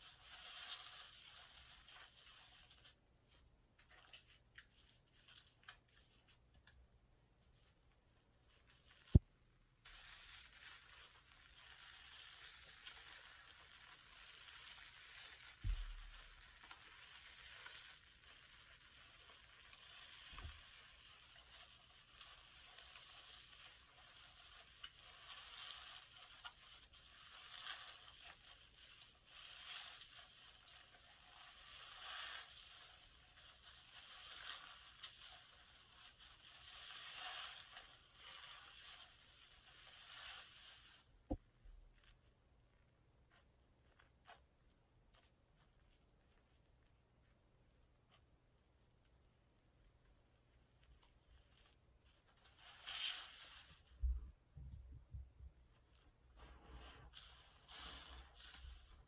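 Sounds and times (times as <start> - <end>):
sponge squishing soap lather: 0.0 - 6.6, 9.8 - 42.6, 43.2 - 47.4, 49.7 - 59.0
foam crackling between hands: 0.0 - 6.8, 7.5 - 42.4, 49.9 - 54.8, 55.7 - 59.0.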